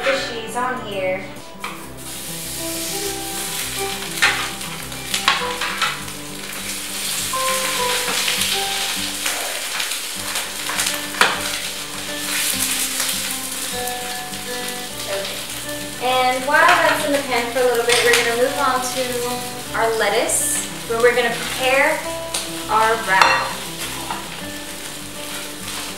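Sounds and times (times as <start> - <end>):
fish sizzling in a pan: 1.6 - 25.9.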